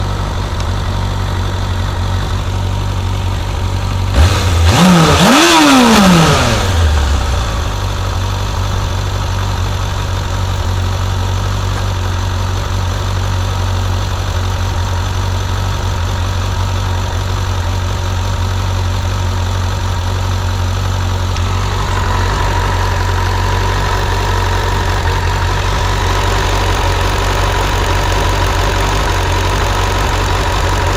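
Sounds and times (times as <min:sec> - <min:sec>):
engine revving: 0:00.0 - 0:30.9
motorcycle engine idling: 0:00.0 - 0:30.9.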